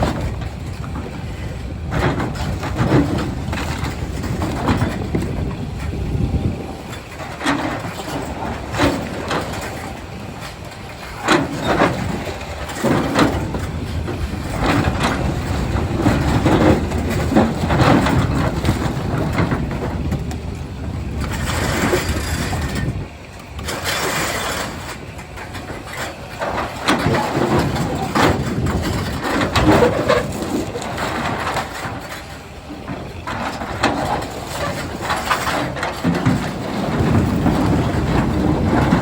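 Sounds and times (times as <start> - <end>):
excavator diesel engine rumbling: 0.0 - 39.0
rock scraping steel bucket: 1.8 - 39.0.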